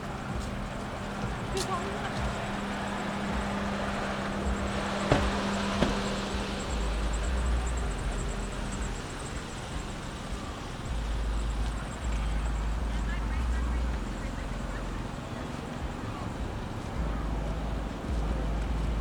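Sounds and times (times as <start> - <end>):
traffic noise: 0.0 - 19.0
vehicle humming: 0.0 - 19.0.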